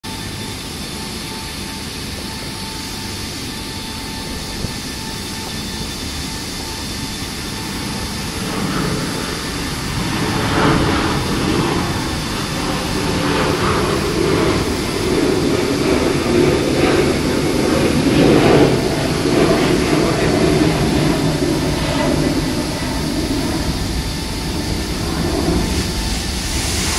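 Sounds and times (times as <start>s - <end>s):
jet engine whine: 0.0s - 26.9s
gusty rumble: 3.3s - 26.9s.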